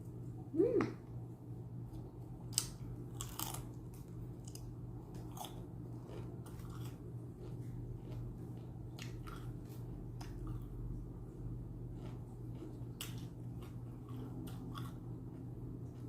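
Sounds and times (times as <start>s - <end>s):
steady low hum: 0.0s - 16.0s
person chewing food: 1.9s - 16.0s.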